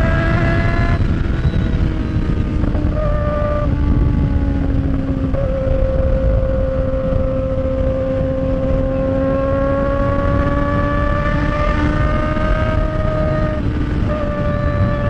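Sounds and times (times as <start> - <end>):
motorcycle engine at highway speed: 0.0 - 15.0
wind rumbling on microphone: 0.0 - 15.0.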